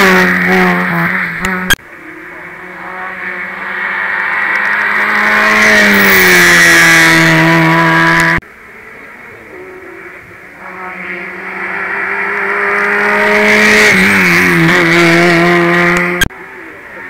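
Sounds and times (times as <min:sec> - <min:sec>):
race car engine passing: 0:00.0 - 0:17.0.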